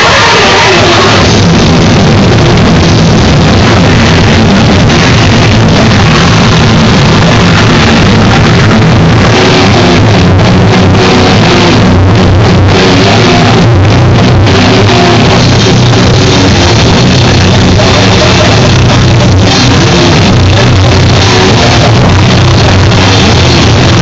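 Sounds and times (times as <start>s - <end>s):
rock band playing: 0.0s - 24.0s.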